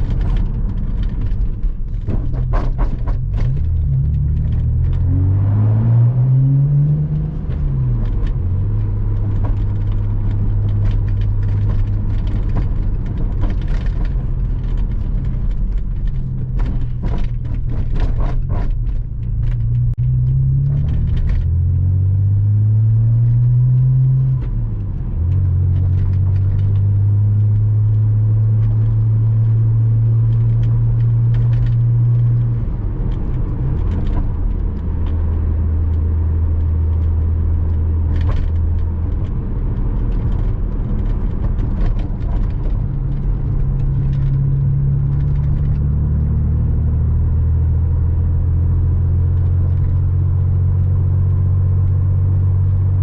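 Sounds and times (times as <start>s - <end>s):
car engine from inside car: 0.0s - 53.0s
road ticks and knocks: 0.0s - 53.0s.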